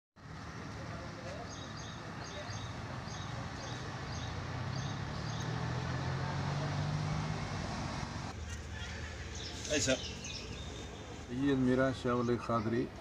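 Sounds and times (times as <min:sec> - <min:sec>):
vehicle engine hum: 0:00.2 - 0:11.7.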